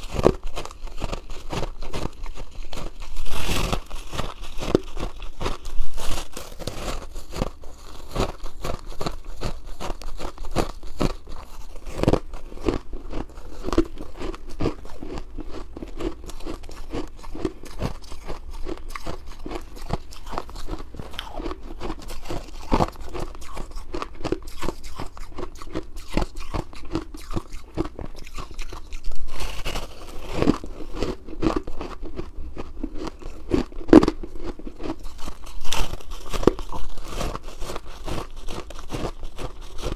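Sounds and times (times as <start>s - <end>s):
ice crunching as chewed: 0.0s - 39.9s.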